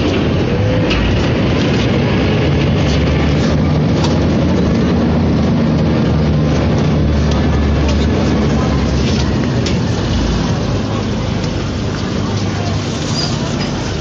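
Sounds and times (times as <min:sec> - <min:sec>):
ferry engine droning: 0:00.0 - 0:14.0.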